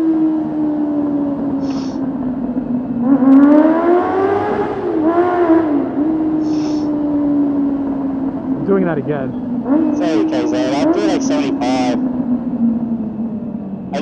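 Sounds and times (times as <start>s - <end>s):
motorcycle engine in a tunnel: 0.0s - 14.0s.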